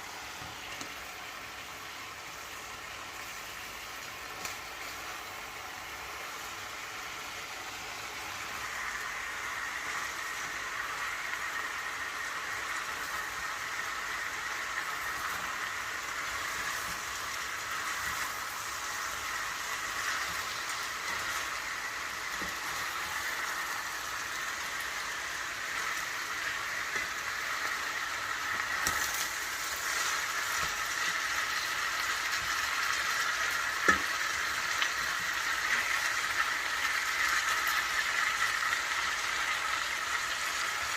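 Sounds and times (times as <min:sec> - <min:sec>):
food sizzling in a pot: 0:00.0 - 0:40.9.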